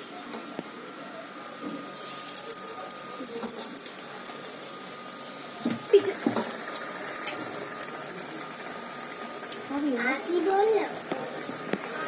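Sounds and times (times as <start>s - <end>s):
food deep-frying in oil: 1.9s - 12.0s.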